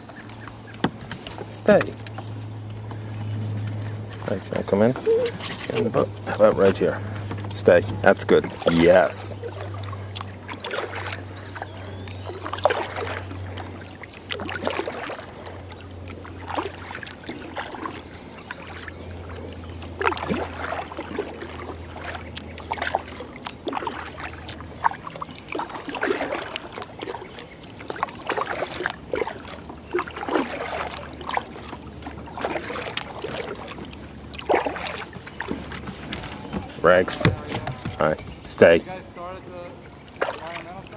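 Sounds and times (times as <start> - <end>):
low steady hum: 0.0 - 40.9
paddle strokes splashing water: 0.0 - 40.9.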